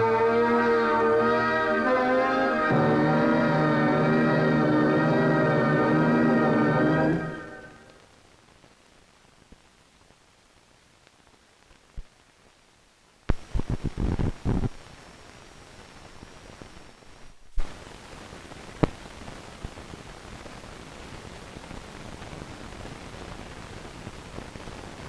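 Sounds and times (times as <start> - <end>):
film soundtrack hiss: 0.0 - 25.0.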